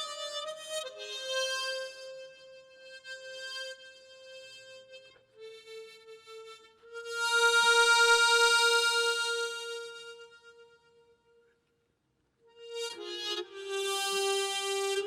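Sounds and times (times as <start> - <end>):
harmonica playing slow hymn melody: 0.0 - 11.1, 12.5 - 15.0.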